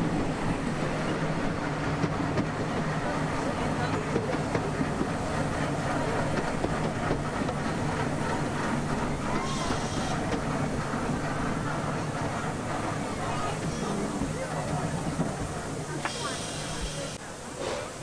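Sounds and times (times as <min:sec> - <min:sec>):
train carriage rumbling on rails: 0:00.0 - 0:18.0.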